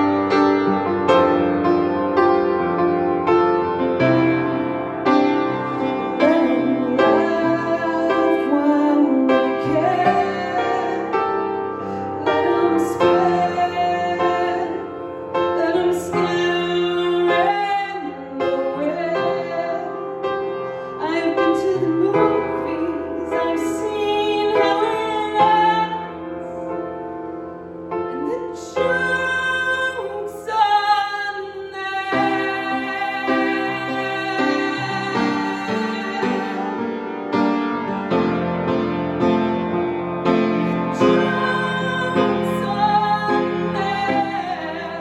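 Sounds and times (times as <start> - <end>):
piano accompaniment: 0.0 - 45.0.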